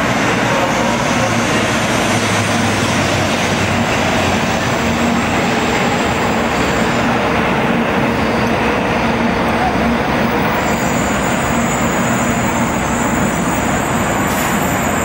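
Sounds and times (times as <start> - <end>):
train rolling rumble and hiss: 0.0 - 15.0.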